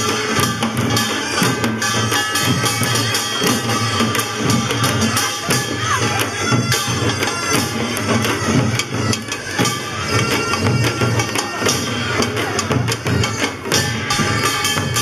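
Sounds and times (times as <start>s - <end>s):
drums beaten: 0.0s - 15.0s
metallic clanging percussion: 0.0s - 15.0s.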